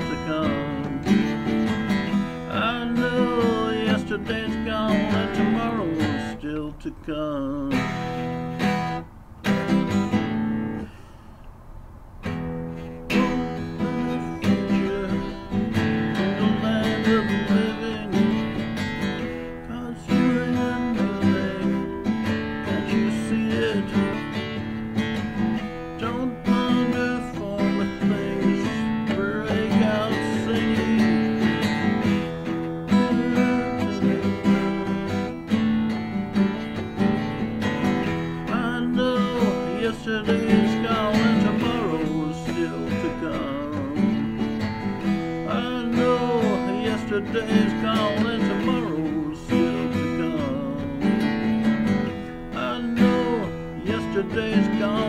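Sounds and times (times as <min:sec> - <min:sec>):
man singing: 0:00.0 - 0:08.4, 0:12.8 - 0:55.0
acoustic guitar strumming: 0:00.0 - 0:55.0.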